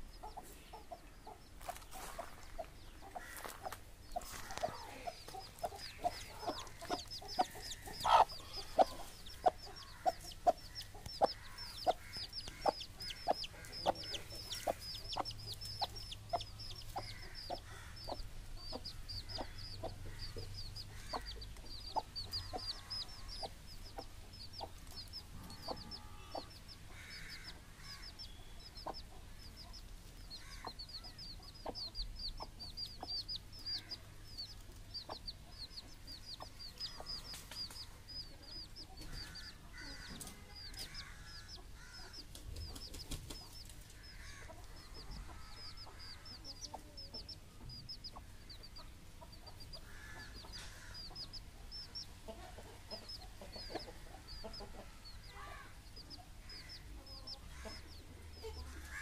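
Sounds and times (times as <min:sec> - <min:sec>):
chicks peeping: 0:00.0 - 0:59.0
hen clucking softly: 0:00.0 - 0:59.0.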